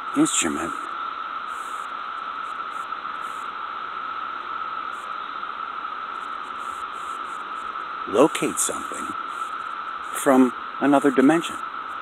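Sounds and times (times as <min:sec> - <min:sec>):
static-like hiss: 0:00.0 - 0:12.0.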